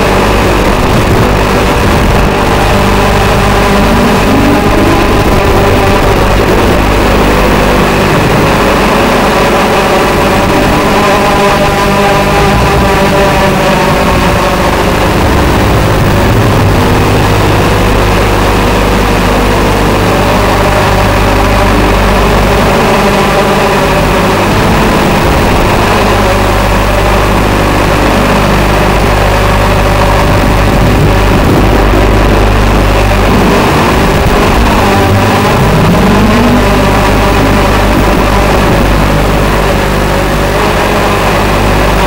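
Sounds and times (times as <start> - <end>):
drone propellers buzzing: 0.0 - 42.0.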